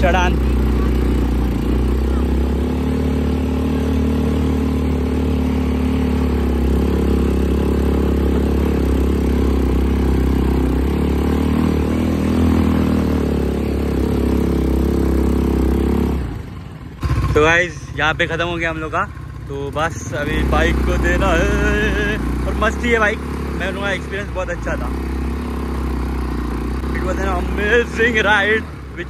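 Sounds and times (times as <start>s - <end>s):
quad bike engine under load: 0.0s - 29.0s.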